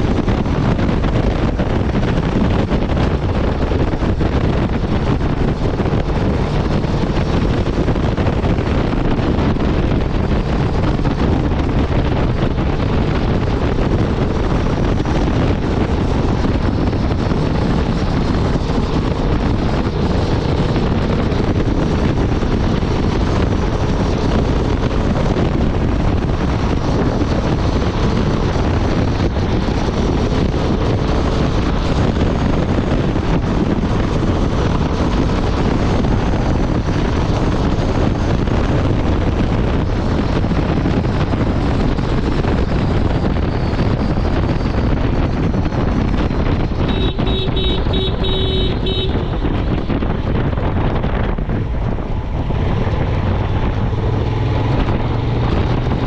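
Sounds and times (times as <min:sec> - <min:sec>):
motorcycle engine cruising: 0:00.0 - 0:56.0
wind buffeting microphone: 0:00.0 - 0:56.0.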